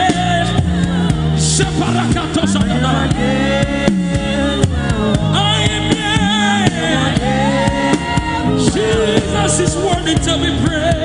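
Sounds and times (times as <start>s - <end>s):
gospel singers with band: 0.0s - 11.0s.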